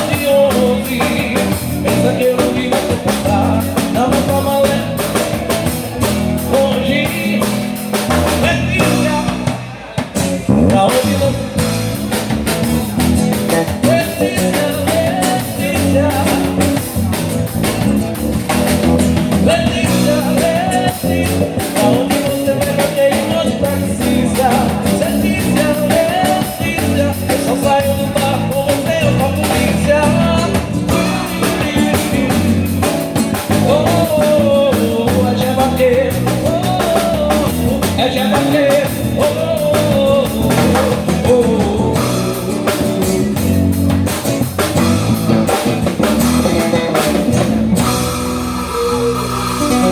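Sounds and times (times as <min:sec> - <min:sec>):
person singing: 0:00.0 - 0:09.8, 0:10.5 - 0:11.6, 0:13.4 - 0:17.2, 0:18.9 - 0:44.6, 0:46.3 - 0:49.9
bass guitar: 0:00.0 - 0:49.9
drum kit: 0:00.0 - 0:49.9.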